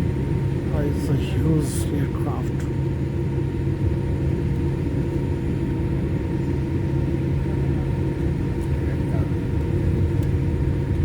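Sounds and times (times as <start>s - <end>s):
airliner cabin rumble: 0.0s - 11.0s
jet engines idling: 0.0s - 11.0s
steady hum tones: 0.0s - 11.0s.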